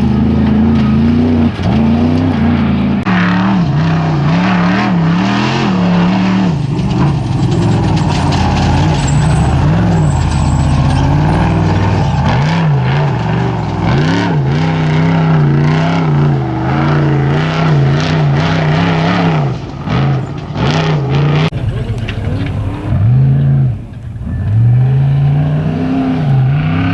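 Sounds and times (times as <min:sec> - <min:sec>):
off-road vehicle engine revving: 0:00.0 - 0:26.9.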